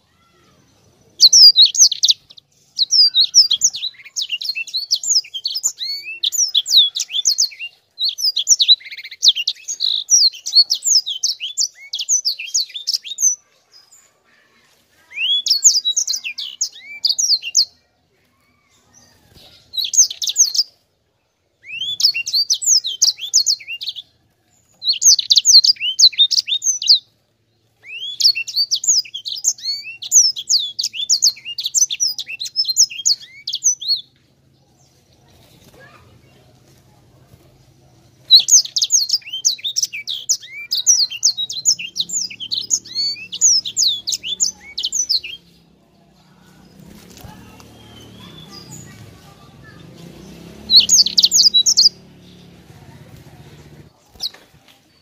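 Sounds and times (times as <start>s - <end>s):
finch singing rapid trills: 1.1s - 13.4s, 15.1s - 17.8s, 19.0s - 20.7s, 21.6s - 27.1s, 27.8s - 34.1s, 37.3s - 54.4s.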